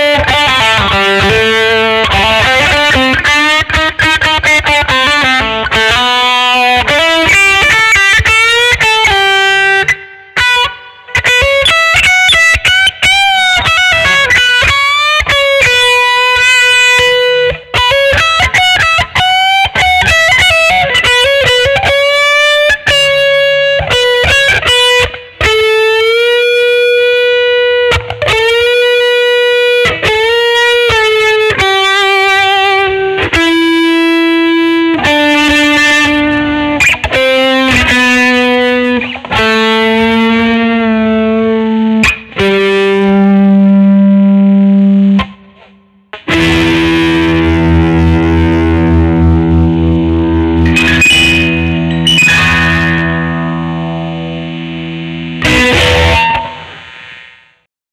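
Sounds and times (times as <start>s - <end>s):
electric guitar melody: 0.0s - 57.6s.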